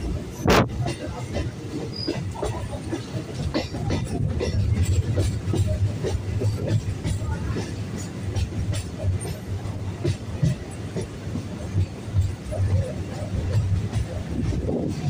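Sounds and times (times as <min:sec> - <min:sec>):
train rumbling: 0:00.0 - 0:15.0
wheels clicking on rails: 0:00.0 - 0:15.0.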